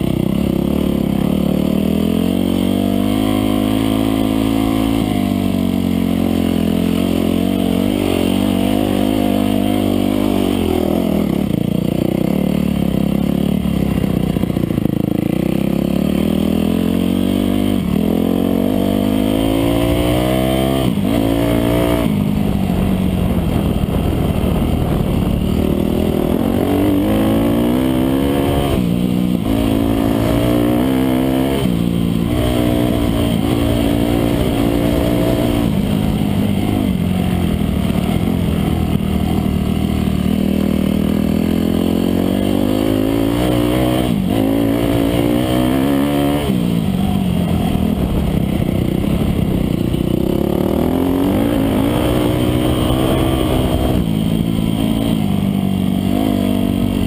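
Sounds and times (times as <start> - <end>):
dirt bike engine accelerating: 0.0 - 57.0.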